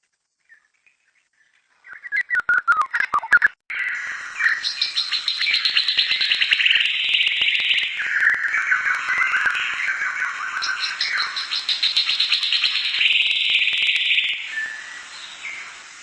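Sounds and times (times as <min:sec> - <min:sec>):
songbird twittering warble: 0:00.3 - 0:16.0.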